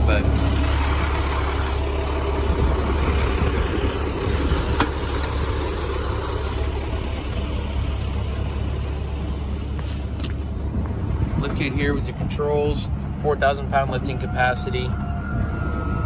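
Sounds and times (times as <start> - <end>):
diesel truck idling: 0.0 - 16.0.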